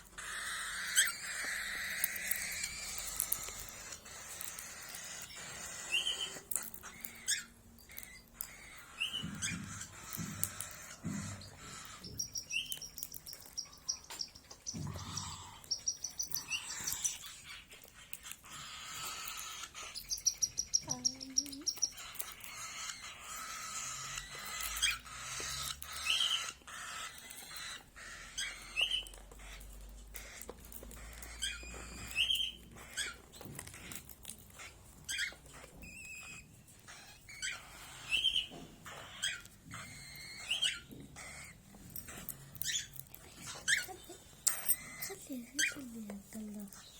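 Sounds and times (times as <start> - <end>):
small birds chirping and trilling: 0.0 - 46.9.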